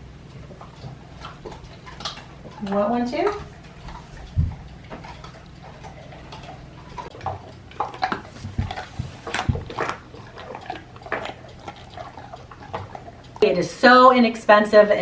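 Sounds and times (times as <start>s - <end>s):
dogs crunching bone treats: 0.1s - 13.4s.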